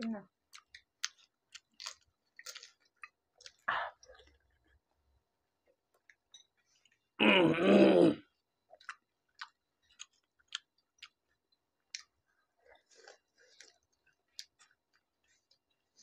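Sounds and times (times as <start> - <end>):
people chewing crisp shells: 0.3 - 7.2, 8.2 - 16.0.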